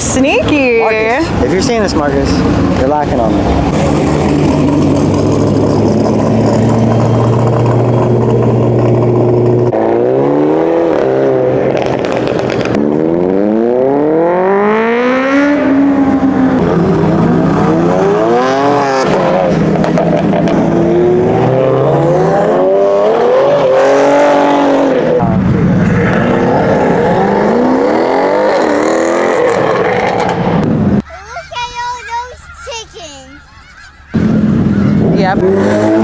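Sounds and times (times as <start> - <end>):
car engine idling and revving: 0.0 - 31.1, 34.1 - 36.0.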